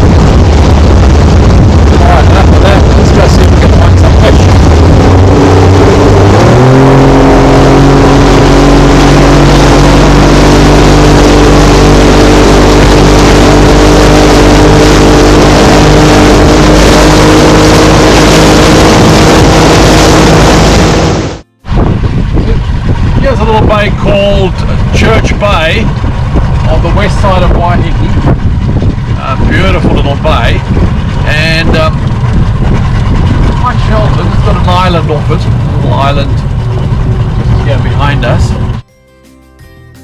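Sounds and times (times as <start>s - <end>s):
outboard motor running: 0.0s - 38.8s
wind and water noise: 0.0s - 38.8s.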